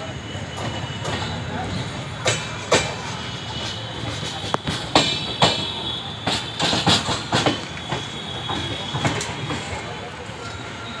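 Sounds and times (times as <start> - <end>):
train wheels clattering over rail joints: 0.5 - 10.8.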